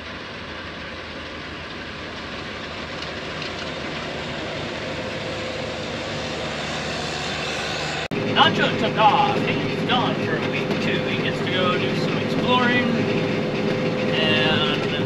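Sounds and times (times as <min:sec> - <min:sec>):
farm machine engine running: 0:00.0 - 0:15.0.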